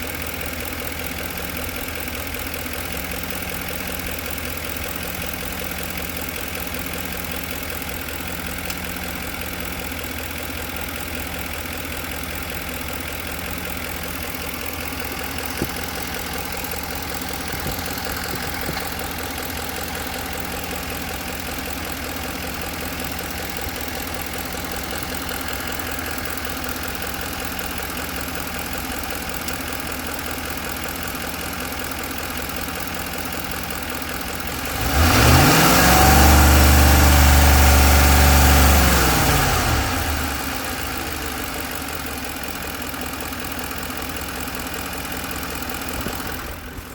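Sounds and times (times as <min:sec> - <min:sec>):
truck engine idling with knocking: 0:00.0 - 0:46.9.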